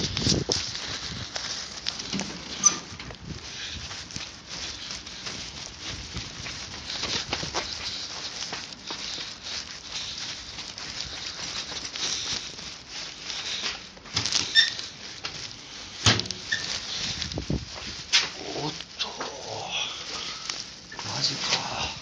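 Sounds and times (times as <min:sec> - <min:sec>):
footsteps on concrete: 0:00.0 - 0:22.0.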